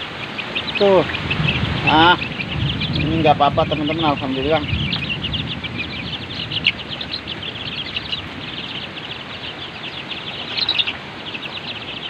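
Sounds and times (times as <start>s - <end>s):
chicks peeping: 0.0s - 12.0s
heavy rain: 0.0s - 12.0s
wind: 0.0s - 12.0s.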